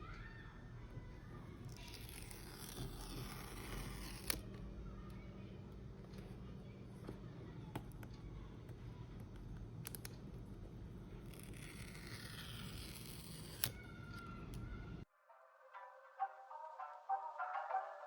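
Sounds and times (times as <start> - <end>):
low steady hum: 0.0 - 15.1.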